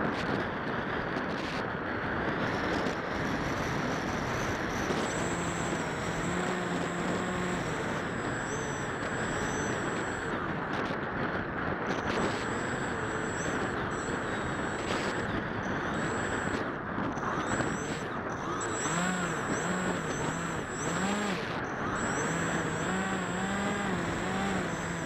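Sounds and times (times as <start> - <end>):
wind rushing over camera: 0.0 - 25.0
faint thin high whine: 3.5 - 10.9, 11.9 - 25.0.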